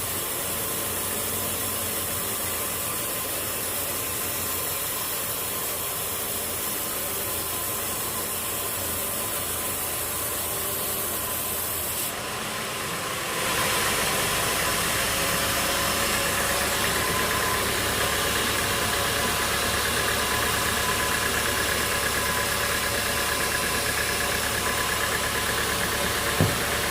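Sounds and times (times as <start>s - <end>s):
faint machine whines: 0.0s - 26.9s
sawmill machinery running: 0.0s - 26.9s.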